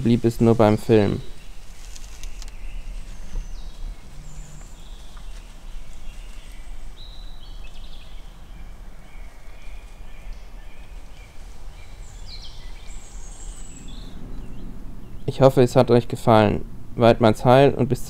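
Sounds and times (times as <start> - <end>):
steady low rumble: 0.0 - 9.4, 10.4 - 18.0
bird calls and song: 0.0 - 16.8.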